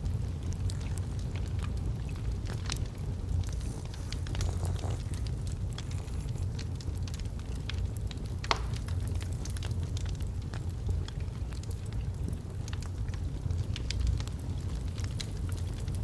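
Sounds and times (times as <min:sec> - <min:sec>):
steady low rumble: 0:00.0 - 0:13.8
fire popping: 0:00.0 - 0:16.0
logs crackling in a fireplace: 0:00.0 - 0:16.0.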